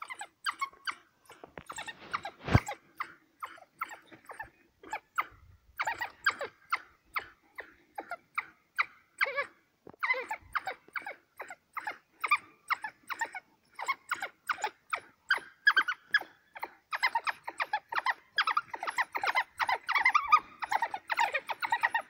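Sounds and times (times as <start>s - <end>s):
wild dogs chirping: 0.0s - 22.0s.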